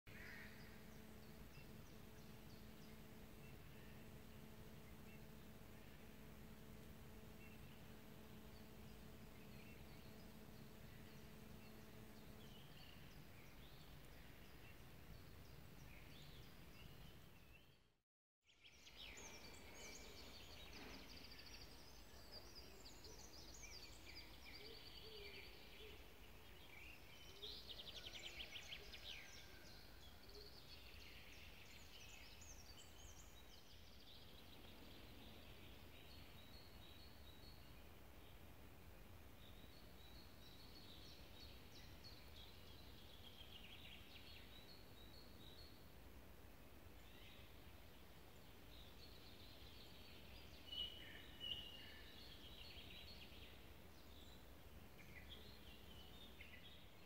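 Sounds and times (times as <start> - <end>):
low steady background hiss: 0.1 - 17.9, 18.5 - 57.0
small birds chirping and trilling: 0.1 - 17.9, 18.6 - 57.0.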